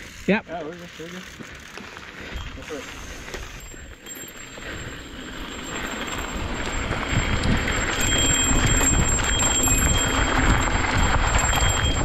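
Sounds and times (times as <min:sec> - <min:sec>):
bike hub ticking: 0:00.0 - 0:12.0
wind and tyre noise: 0:01.2 - 0:12.0.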